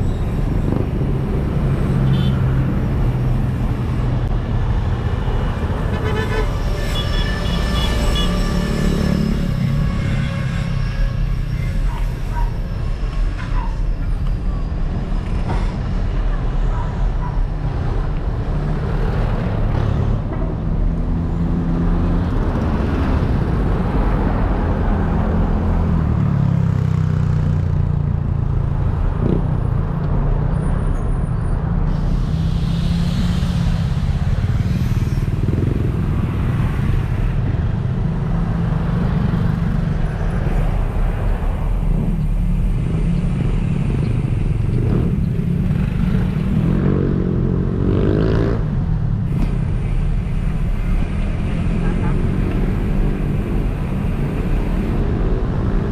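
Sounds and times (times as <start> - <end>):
vehicle road noise: 0.0 - 55.9
wind: 0.0 - 55.9.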